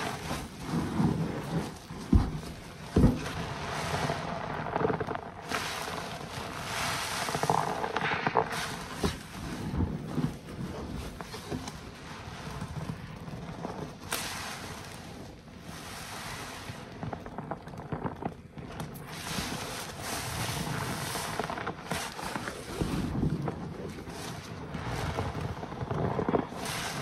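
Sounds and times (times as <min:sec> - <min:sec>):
foam crackling: 0:00.0 - 0:27.0
wet sponge squishing: 0:00.0 - 0:27.0.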